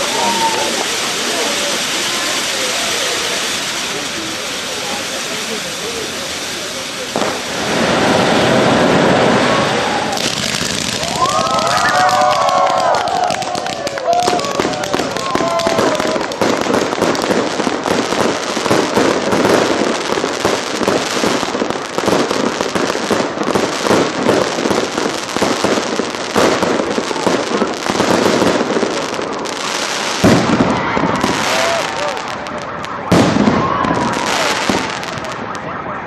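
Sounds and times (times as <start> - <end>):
deep firework bangs: 0.0 - 35.7
fireworks crackling pops: 0.0 - 36.0.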